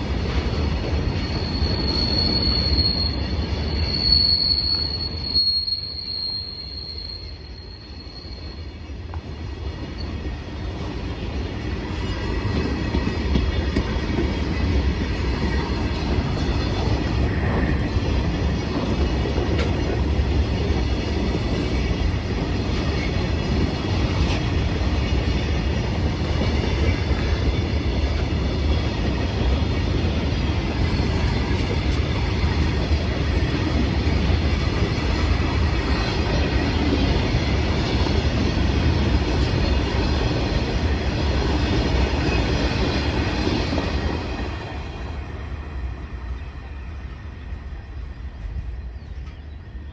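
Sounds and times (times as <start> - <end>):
goods train rumbling on rails: 0.0 - 49.9.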